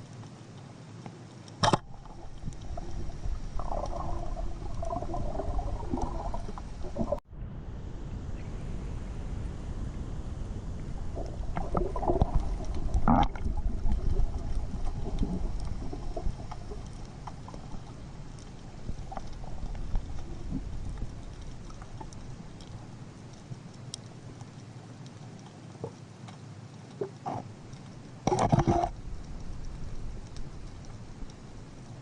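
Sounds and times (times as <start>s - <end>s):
muffled rumbling water: 0.0s - 32.0s.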